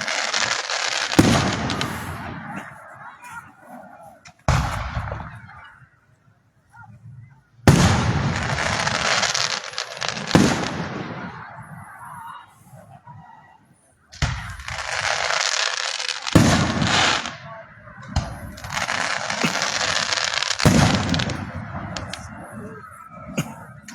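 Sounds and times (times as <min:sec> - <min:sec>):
firework crackling: 0:00.0 - 0:03.2, 0:04.2 - 0:05.7, 0:07.7 - 0:12.9, 0:14.2 - 0:23.9
firework bangs: 0:00.0 - 0:05.9, 0:07.6 - 0:12.7, 0:14.1 - 0:23.9.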